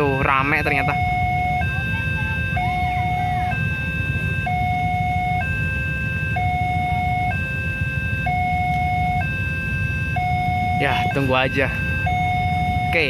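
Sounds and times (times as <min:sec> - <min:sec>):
two-tone crossing alarm: 0:00.0 - 0:13.0.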